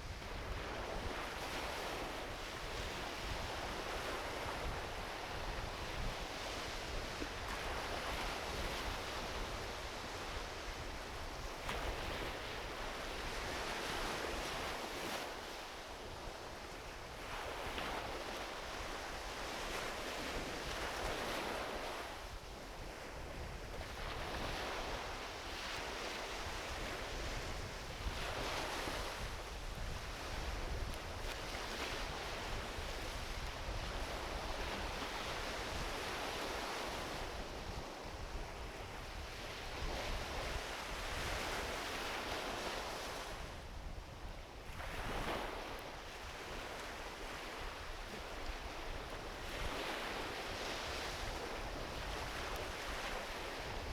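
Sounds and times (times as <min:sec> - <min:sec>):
small waves washing onto beach: 0:00.0 - 0:53.9
wind rumble on microphone: 0:00.0 - 0:53.9.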